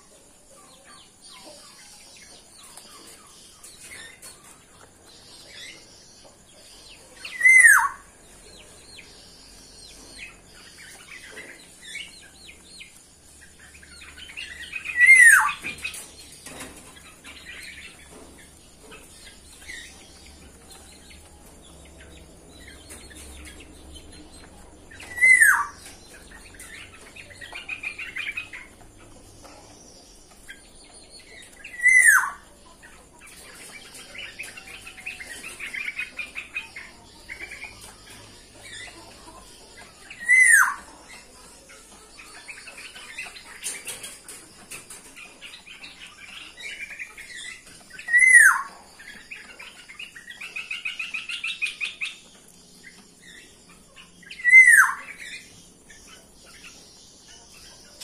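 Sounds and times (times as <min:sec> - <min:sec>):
soft bird chirping and twittering: 0:00.0 - 0:58.0.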